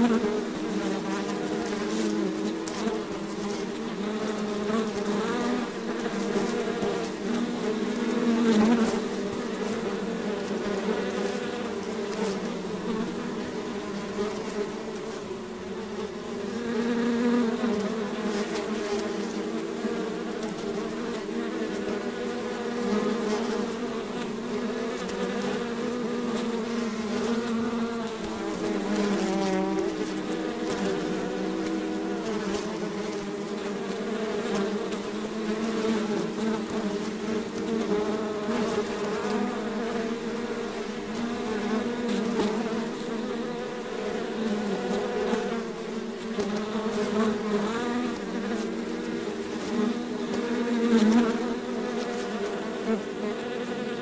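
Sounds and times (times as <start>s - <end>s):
swarm of bees buzzing: 0.0s - 54.0s.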